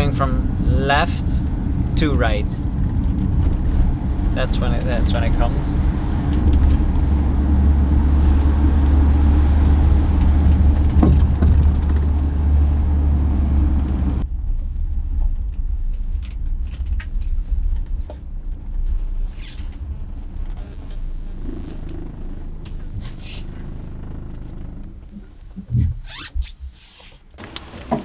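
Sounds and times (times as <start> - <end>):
engine and road rumble in cabin: 0.0 - 28.0.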